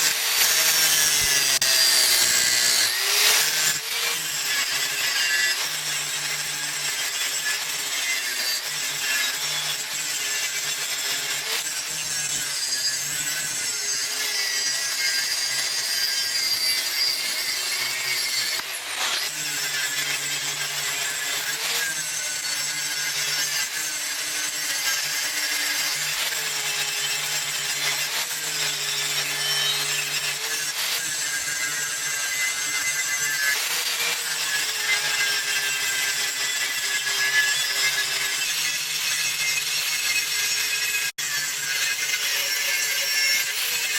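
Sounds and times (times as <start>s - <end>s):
hacksaw cutting steel: 0.0s - 43.9s.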